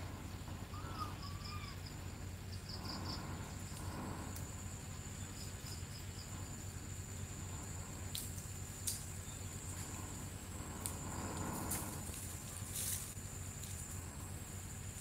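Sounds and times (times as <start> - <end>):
insects droning and chirping: 0.0 - 15.0
low hum: 1.8 - 15.0.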